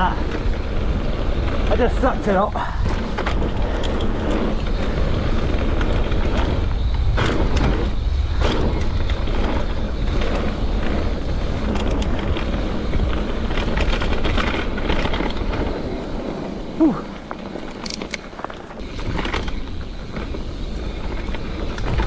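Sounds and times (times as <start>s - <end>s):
bike clicks and rattles: 0.0s - 22.0s
tyres rumbling on dirt: 0.0s - 22.0s
wind buffeting microphone: 0.0s - 22.0s.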